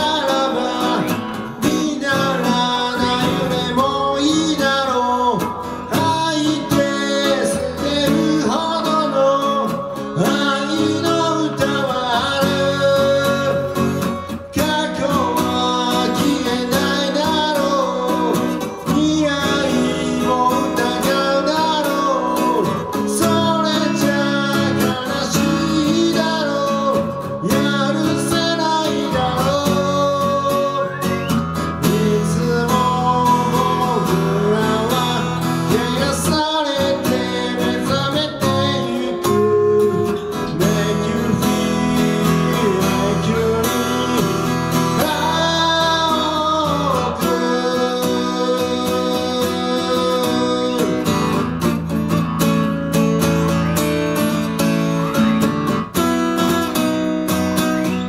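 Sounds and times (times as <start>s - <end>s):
acoustic guitar strumming: 0.0s - 58.0s
man singing: 0.0s - 58.0s.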